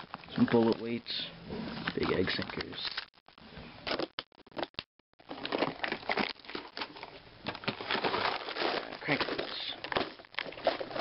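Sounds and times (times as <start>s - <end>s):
plastic boxes rustling and clattering: 0.0s - 3.0s, 3.8s - 11.0s.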